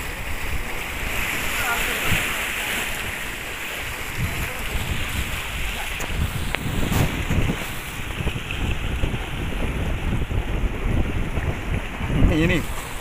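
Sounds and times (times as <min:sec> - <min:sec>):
sea waves: 0:00.0 - 0:13.0
wind buffeting microphone: 0:00.0 - 0:13.0.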